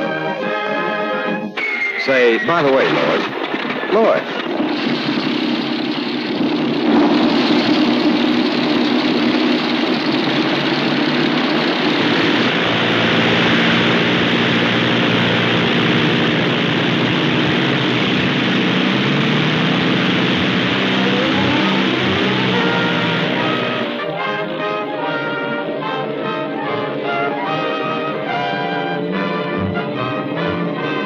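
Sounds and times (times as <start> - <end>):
propeller plane engines drone: 2.4 - 31.0
rising tone: 4.6 - 31.0.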